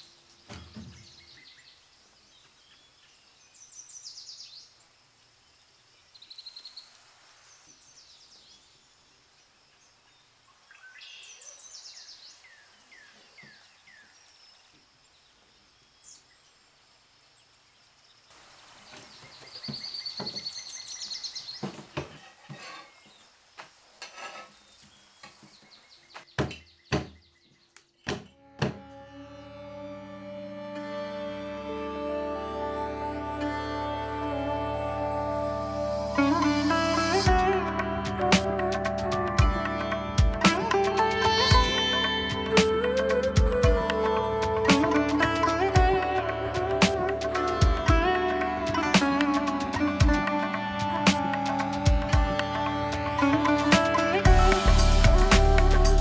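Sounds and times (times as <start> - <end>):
birds chirping: 0.0 - 16.8, 17.4 - 28.5, 32.8 - 56.0.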